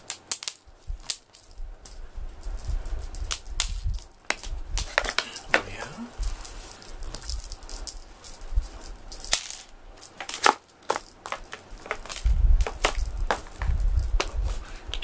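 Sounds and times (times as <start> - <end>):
cat toy rattling and jingling: 0.0 - 15.0
low rumbling handling noise: 0.0 - 15.0.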